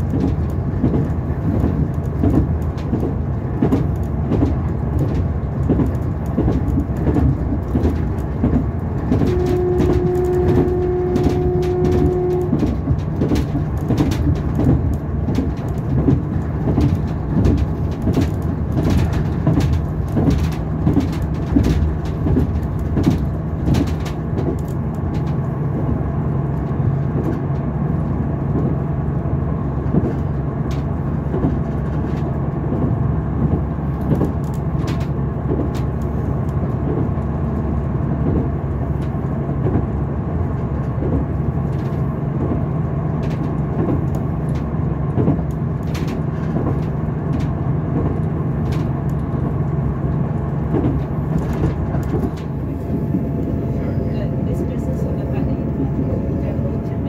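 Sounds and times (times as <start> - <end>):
carriage rumble: 0.0 - 57.0
train engine drone: 0.0 - 57.0
wheels clicking on track: 0.0 - 57.0.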